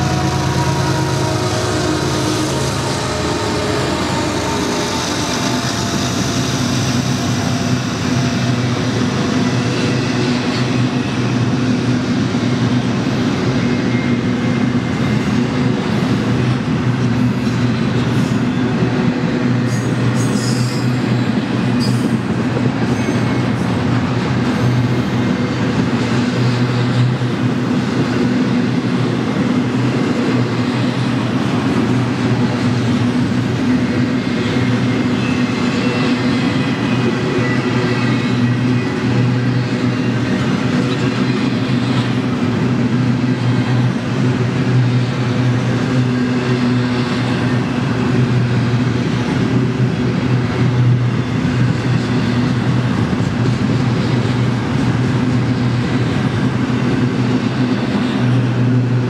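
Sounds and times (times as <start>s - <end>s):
steel train wheels rumbling on rail: 0.0s - 59.0s.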